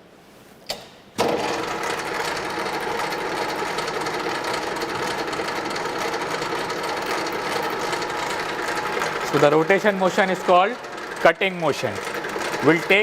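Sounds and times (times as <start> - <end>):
lathe motor running: 1.2 - 13.0.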